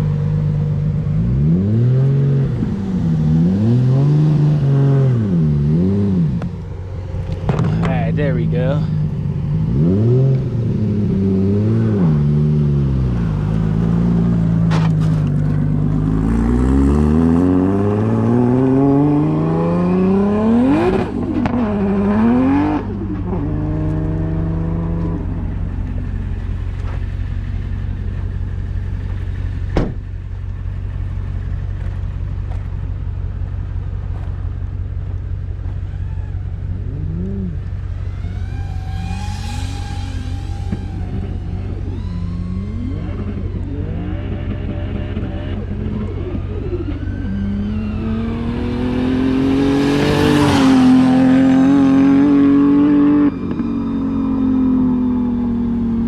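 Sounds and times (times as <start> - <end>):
car engine revving: 0.0 - 32.7, 35.0 - 56.0.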